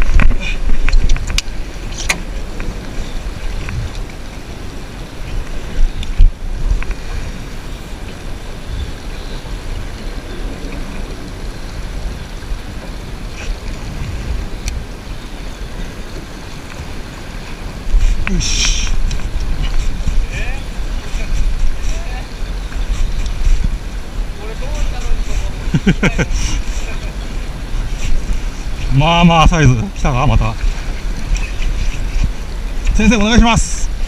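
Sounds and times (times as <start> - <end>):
wind and water rumble: 0.0 - 34.0.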